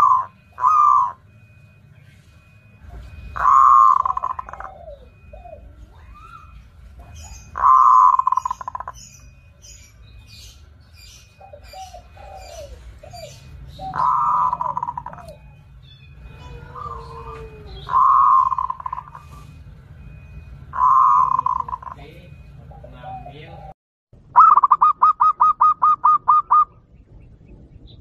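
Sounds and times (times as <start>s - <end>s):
dove cooing: 0.0s - 1.8s, 2.4s - 9.2s, 11.2s - 23.8s, 24.4s - 26.8s
small birds chirping: 0.0s - 23.7s.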